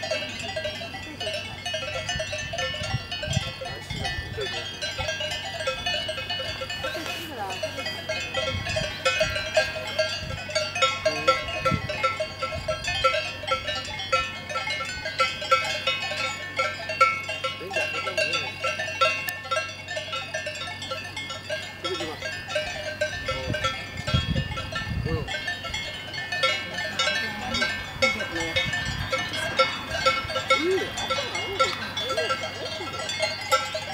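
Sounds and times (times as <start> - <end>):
cowbells clanking: 0.0 - 33.9.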